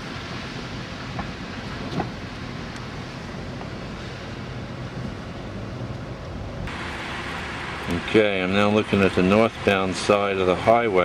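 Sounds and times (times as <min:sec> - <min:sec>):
car engine hum: 0:00.0 - 0:11.0
tyres on snowy road: 0:00.0 - 0:11.0.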